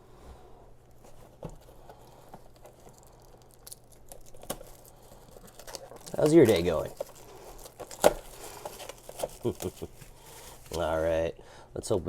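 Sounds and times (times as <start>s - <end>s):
packaging clicks and rustles: 0.9s - 11.1s.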